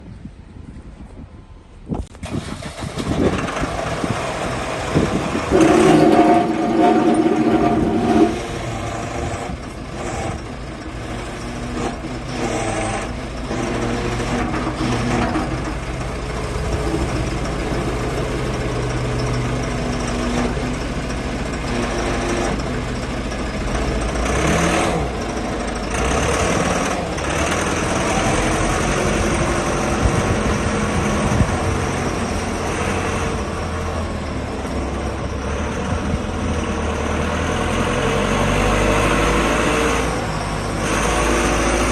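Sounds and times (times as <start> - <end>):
diesel engine running: 2.1 - 41.9.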